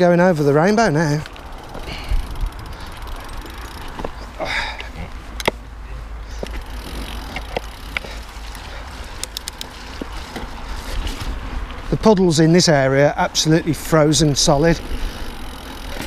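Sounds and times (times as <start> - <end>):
bike chain and frame rattling: 0.0 - 16.0
tyres rumbling on trail: 0.0 - 16.0.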